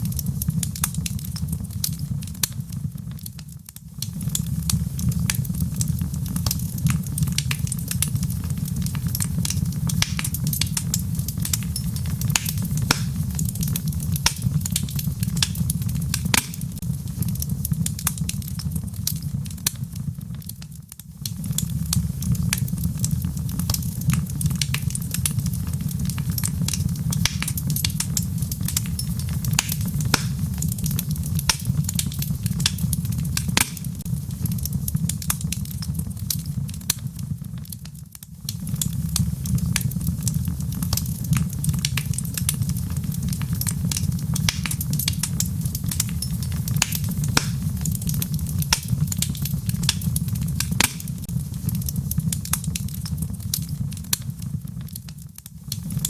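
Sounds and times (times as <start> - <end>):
fire crackles and pops: 0.0 - 56.0
low rumble of flame: 0.0 - 56.0.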